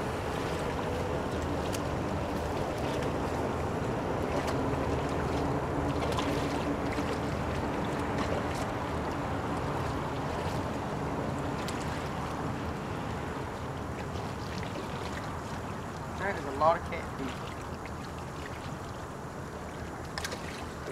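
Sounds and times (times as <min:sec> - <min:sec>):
low engine drone: 0:00.0 - 0:20.9.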